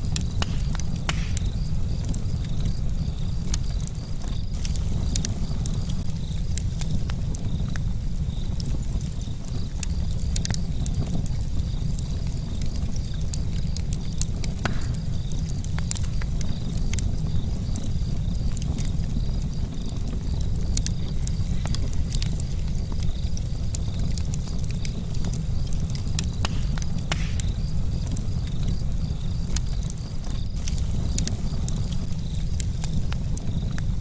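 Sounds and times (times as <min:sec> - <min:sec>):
insect chirping: 0:00.0 - 0:10.9, 0:11.6 - 0:18.5, 0:19.1 - 0:33.8
campfire crackling and popping: 0:00.0 - 0:34.0.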